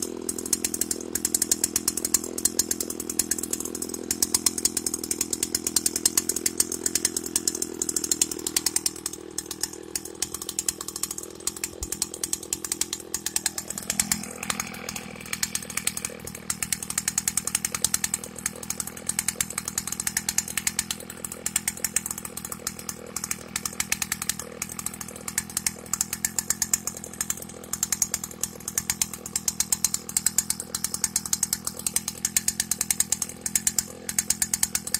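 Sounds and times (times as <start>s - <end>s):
two-stroke engine running: 0.0s - 34.9s.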